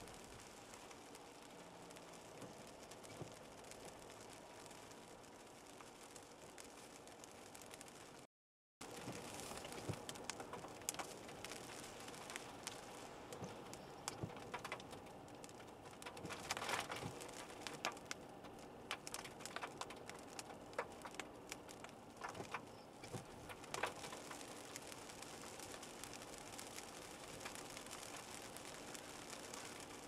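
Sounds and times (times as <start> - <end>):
faint steady hum: 0.0 - 30.0
rain on a car: 0.0 - 30.0.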